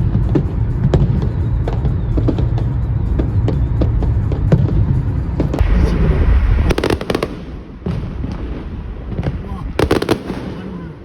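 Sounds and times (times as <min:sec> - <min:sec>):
low rumble: 0:00.0 - 0:09.9
fireworks crackling: 0:00.0 - 0:11.0
fireworks popping and banging: 0:00.0 - 0:11.0.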